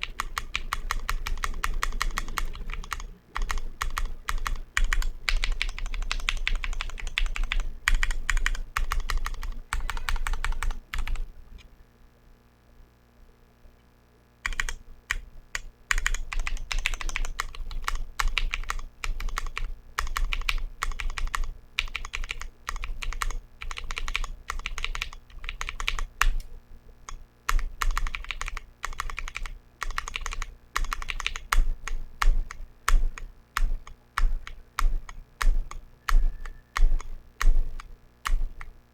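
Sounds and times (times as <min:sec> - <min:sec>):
mechanical keyboard typing: 0:00.0 - 0:11.3, 0:14.4 - 0:38.7.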